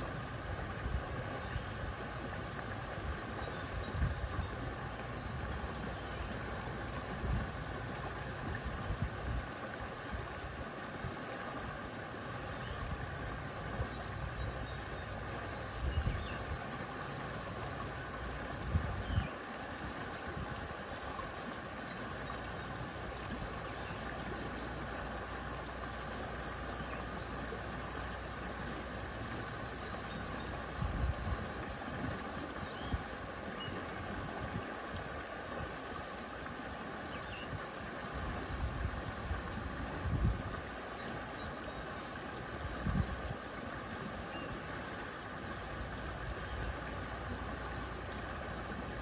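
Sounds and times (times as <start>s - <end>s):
water flowing over rocks: 0.0s - 49.0s.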